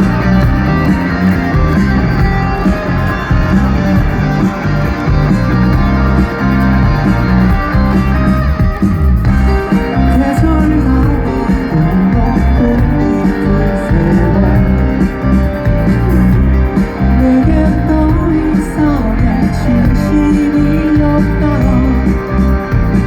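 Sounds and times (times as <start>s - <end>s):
electric guitars: 0.0s - 23.0s
rock band playing live: 0.0s - 23.0s.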